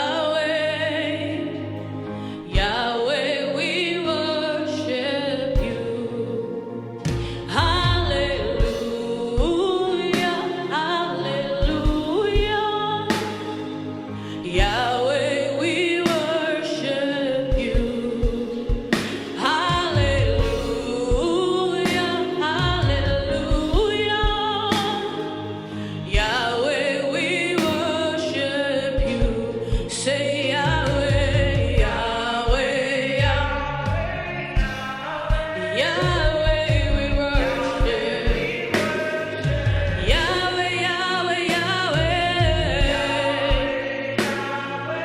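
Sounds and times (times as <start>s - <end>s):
voices singing worship song: 0.0s - 45.0s
live band with steady beat: 1.5s - 3.3s, 5.6s - 45.0s.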